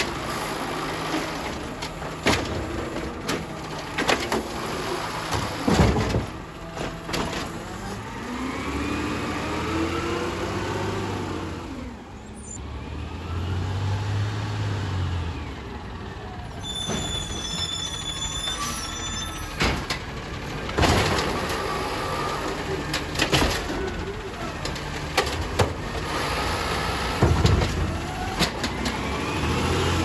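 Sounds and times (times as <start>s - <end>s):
garbage truck engine running: 0.0s - 12.2s, 14.9s - 30.0s.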